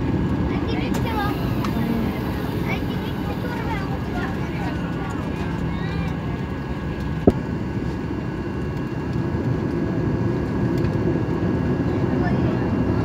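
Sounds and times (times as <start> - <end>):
airplane engines rumbling in cabin: 0.0 - 13.0.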